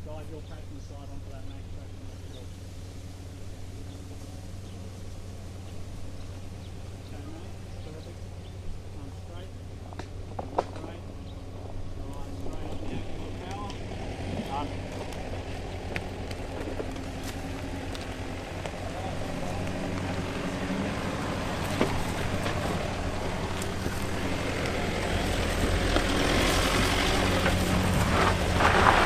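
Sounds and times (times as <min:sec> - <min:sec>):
vehicle engine under load: 0:00.0 - 0:29.0.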